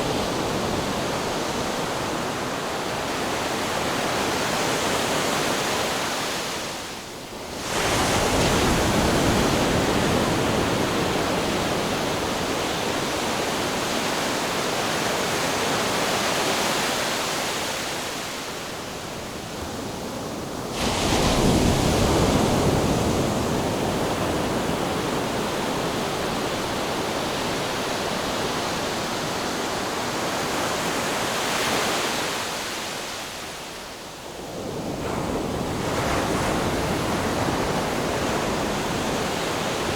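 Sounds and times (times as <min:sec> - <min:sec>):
ocean waves washing: 0:00.0 - 0:33.6, 0:34.3 - 0:39.9.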